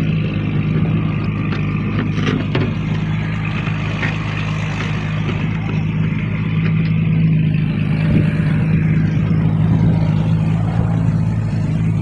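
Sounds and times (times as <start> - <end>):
diesel engine droning hum: 0.0 - 12.0.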